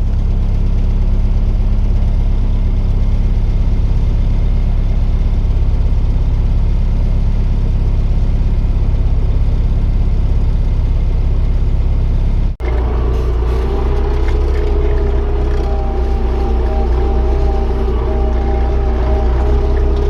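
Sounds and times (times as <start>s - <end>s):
engine with higher steady tones: 0.0s - 20.0s
tractor engine droning: 0.0s - 20.0s.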